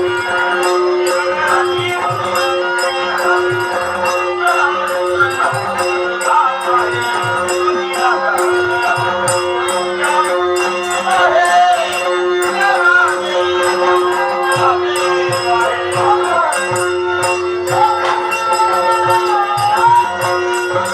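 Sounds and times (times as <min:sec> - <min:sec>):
hand cymbals jingling: 0:00.0 - 0:20.9
person singing: 0:00.0 - 0:20.9.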